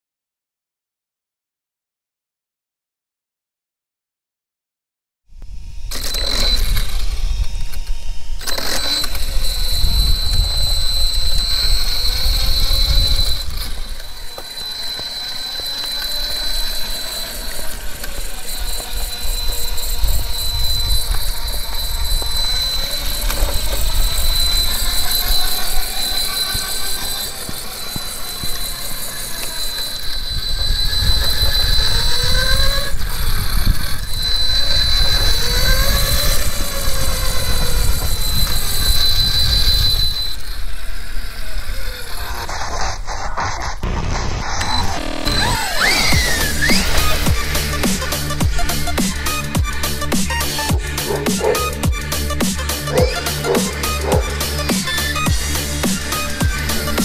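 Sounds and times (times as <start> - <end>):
electric motor whine: 5.3 - 57.0.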